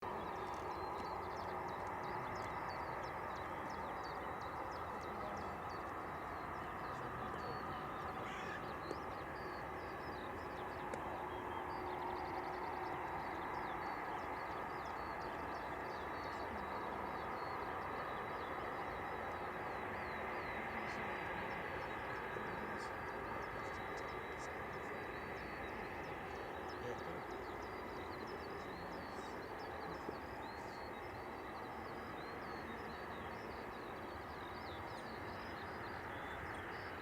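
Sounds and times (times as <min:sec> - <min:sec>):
small birds chirping: 0:00.0 - 0:37.0
steady background hum: 0:00.1 - 0:37.0.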